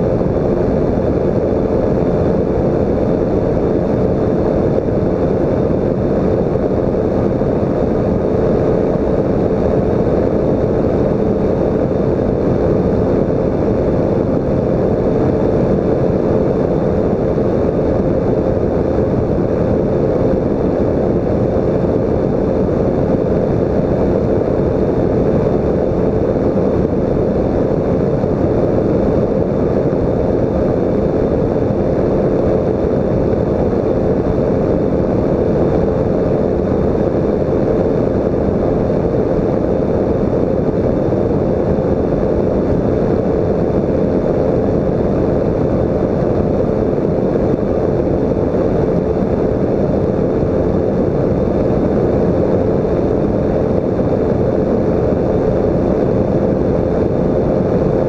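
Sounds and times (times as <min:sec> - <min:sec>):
microlight engine and propeller drone: 0:00.0 - 0:58.0
wind rushing over microphone: 0:00.0 - 0:58.0.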